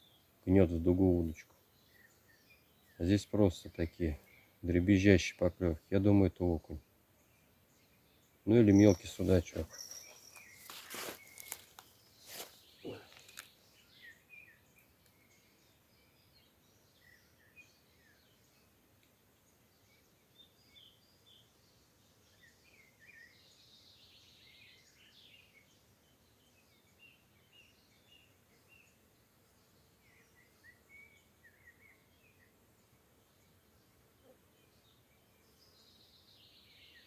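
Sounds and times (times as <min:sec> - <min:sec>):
faint bird chirps: 0:00.0 - 0:05.4, 0:06.0 - 0:37.0.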